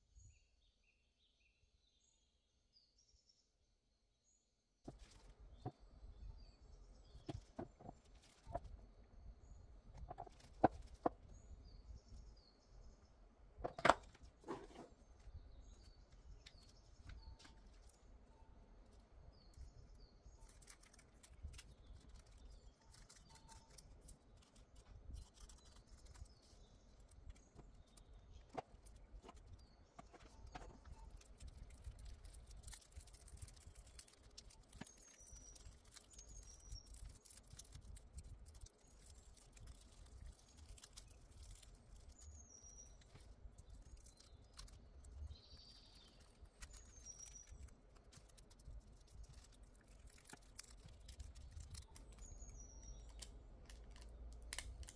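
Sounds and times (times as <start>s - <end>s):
faint bird chirps: 0.0s - 54.2s.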